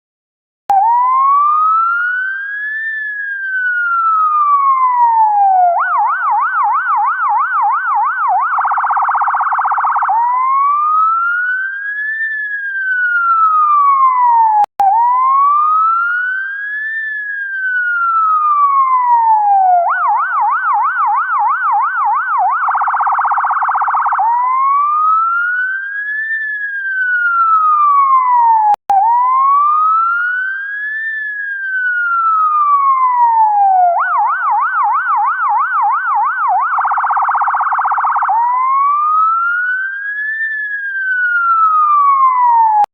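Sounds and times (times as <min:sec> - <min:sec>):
ambulance siren wailing and yelping: 0:00.7 - 0:42.9.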